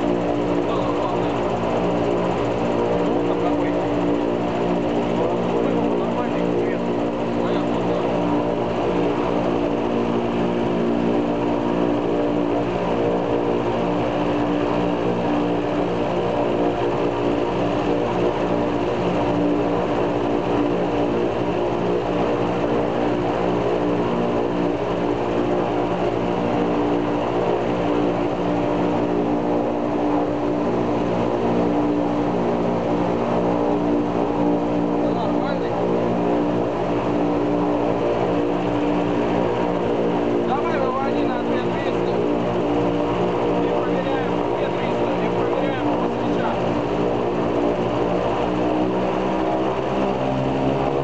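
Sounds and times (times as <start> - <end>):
radial aircraft engine droning: 0.0 - 51.0.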